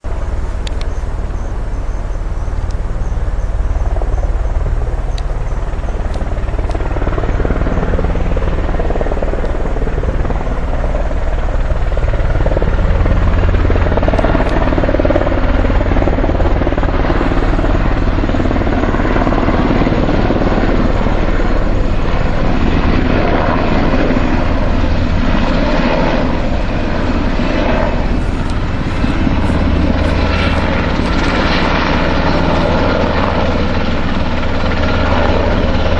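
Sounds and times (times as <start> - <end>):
helicopter rotor beat: 0.0 - 35.9
helicopter turbine engine: 0.0 - 35.9.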